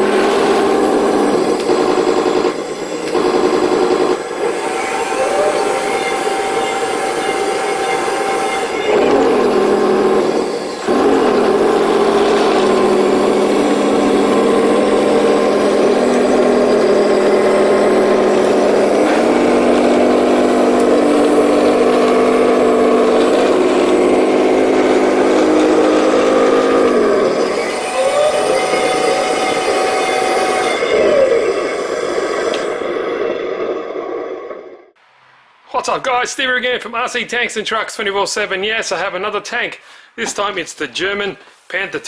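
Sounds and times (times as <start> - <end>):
simulated tank engine drone: 0.0 - 35.0.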